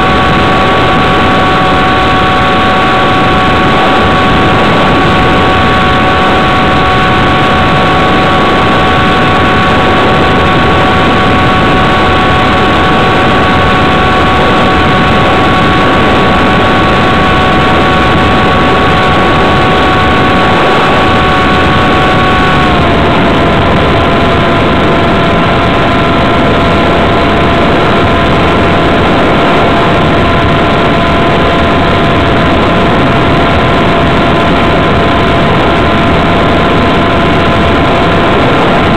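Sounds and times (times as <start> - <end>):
model plane motor whine: 0.0 - 38.9
rushing air noise: 0.0 - 38.9.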